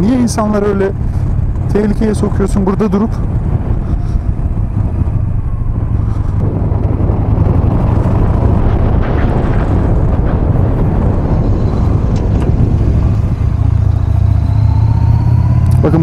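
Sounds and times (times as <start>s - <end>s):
motorcycle engine droning: 0.0s - 16.0s
wind and road noise: 0.0s - 16.0s.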